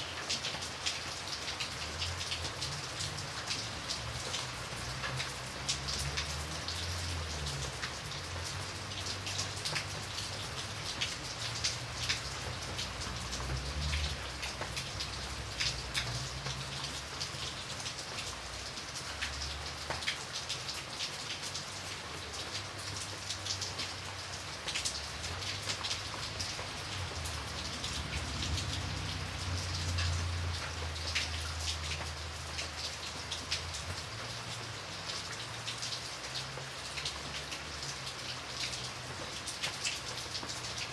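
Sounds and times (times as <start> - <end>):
raindrops ticking on a window: 0.0 - 40.9.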